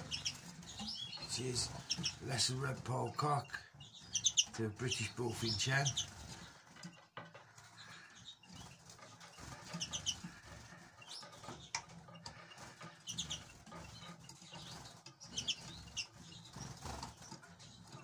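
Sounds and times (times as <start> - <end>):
finches chirping: 0.0 - 18.0.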